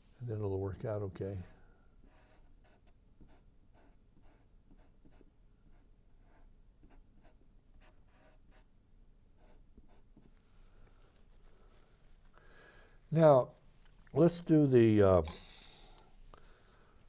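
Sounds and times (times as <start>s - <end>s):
faint paintbrush strokes: 0.8s - 17.0s.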